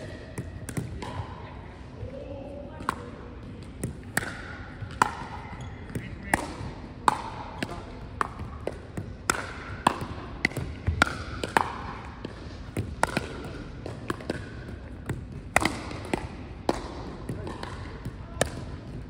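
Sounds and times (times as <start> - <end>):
paddles hitting plastic ball: 0.0 - 1.2, 2.8 - 19.0
ball bouncing on gym floor: 0.0 - 1.3, 2.7 - 19.0.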